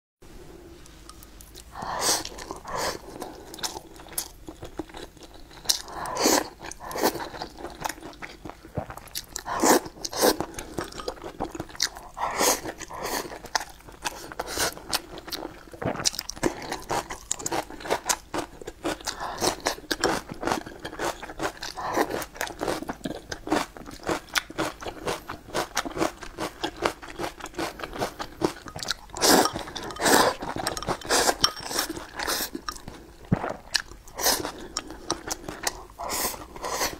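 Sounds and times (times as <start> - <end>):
person chewing with crunches: 0.8 - 36.9.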